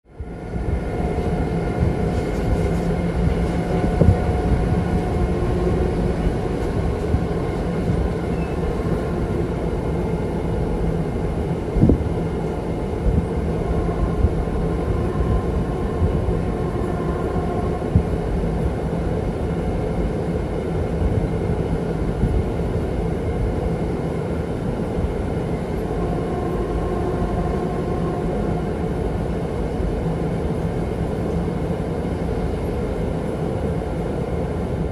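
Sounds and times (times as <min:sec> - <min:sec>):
train wheels rumbling on rails: 0:00.1 - 0:34.9.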